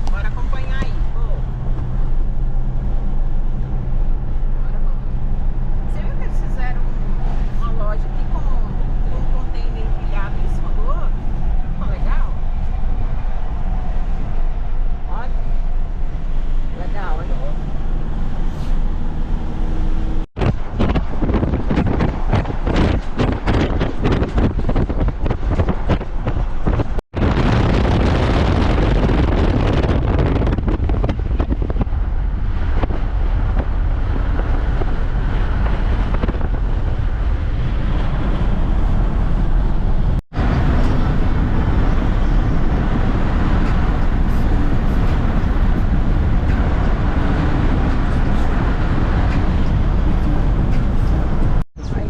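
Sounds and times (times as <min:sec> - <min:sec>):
vehicle road noise: 0:00.0 - 0:52.0
wind buffeting microphone: 0:00.0 - 0:52.0.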